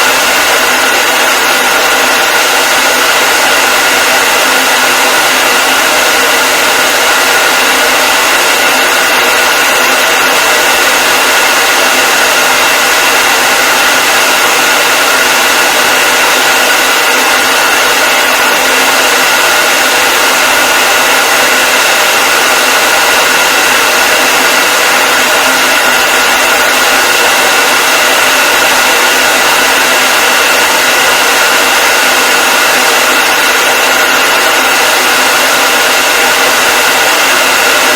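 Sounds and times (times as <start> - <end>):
hair dryer running: 0.0 - 37.9.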